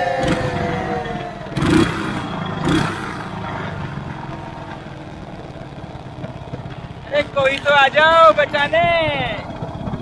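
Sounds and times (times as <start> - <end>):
quad bike engine revving: 0.0 - 10.0.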